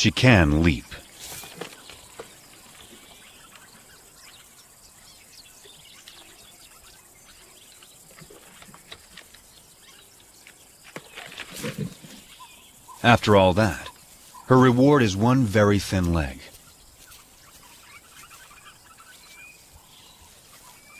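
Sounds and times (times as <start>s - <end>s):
bird chirps: 0.6s - 20.9s.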